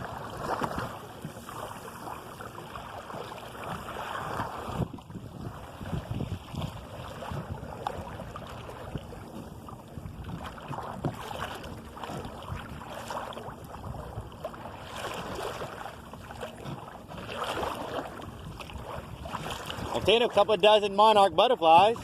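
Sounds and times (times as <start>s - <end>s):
water lapping against a hull: 0.0s - 22.0s.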